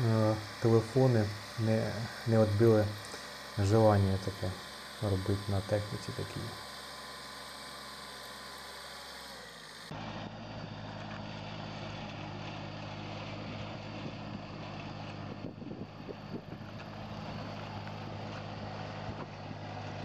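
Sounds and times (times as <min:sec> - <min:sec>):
diesel tractor under load: 0:00.0 - 0:20.0
tractor engines running: 0:00.0 - 0:20.0.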